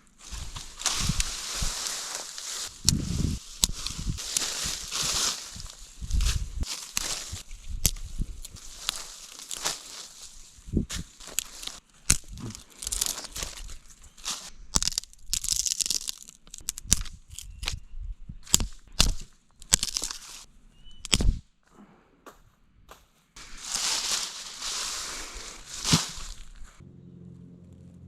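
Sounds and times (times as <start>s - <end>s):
rustling: 0.0s - 17.7s, 19.0s - 20.5s, 23.4s - 26.8s
sticks snapping and crunching: 0.2s - 21.4s, 23.4s - 26.8s.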